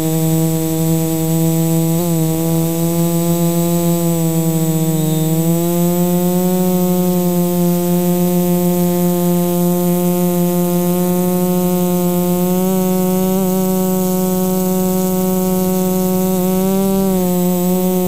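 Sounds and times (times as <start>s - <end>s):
quadcopter motors buzzing: 0.0s - 18.0s.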